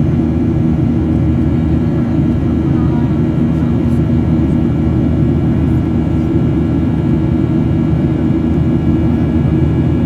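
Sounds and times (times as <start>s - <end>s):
jet engine drone: 0.0s - 10.0s.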